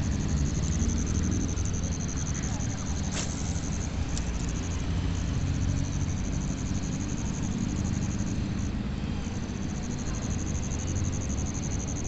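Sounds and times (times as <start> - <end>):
high pulsing chirr: 0.0 - 12.0.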